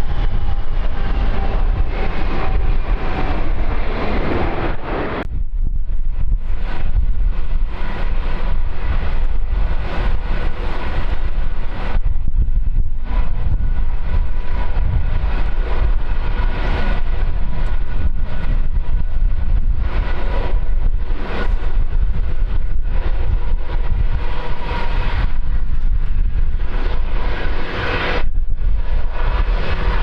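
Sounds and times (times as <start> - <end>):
jet engine whine: 0.0 - 30.0
wind buffeting microphone: 0.0 - 30.0.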